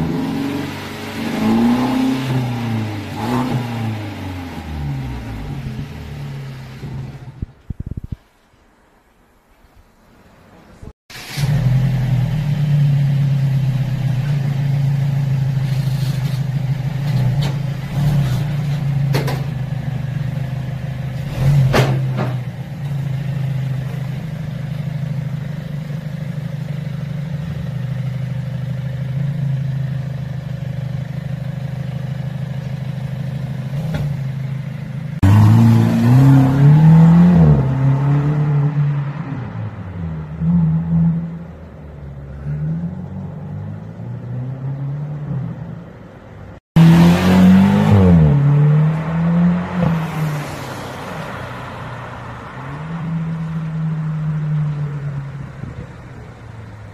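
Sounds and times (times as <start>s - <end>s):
car engine droning: 0.0s - 7.6s, 10.7s - 56.9s.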